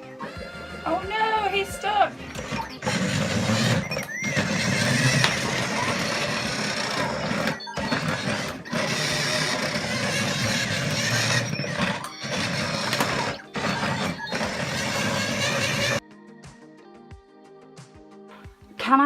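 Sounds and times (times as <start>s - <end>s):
toy motors whirring: 0.2s - 16.0s.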